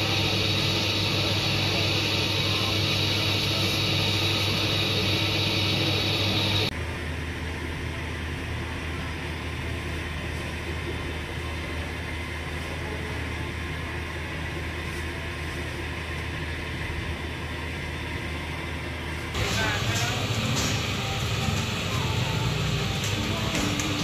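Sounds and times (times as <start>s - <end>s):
machinery motor hum: 0.0s - 6.8s, 7.4s - 24.0s.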